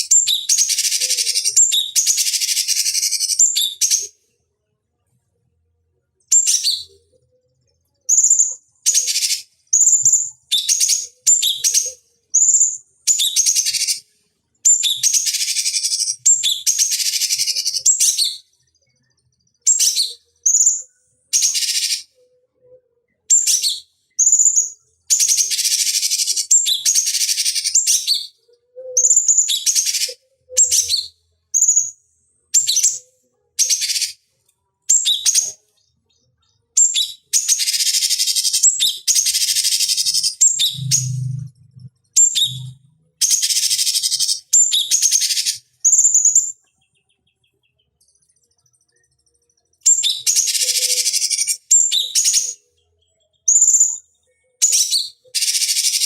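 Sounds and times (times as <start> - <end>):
bird high calls and chattering: 0.0 - 4.2, 6.3 - 7.0, 8.0 - 14.0, 14.6 - 22.4, 23.1 - 32.0, 32.6 - 34.2, 34.9 - 56.0.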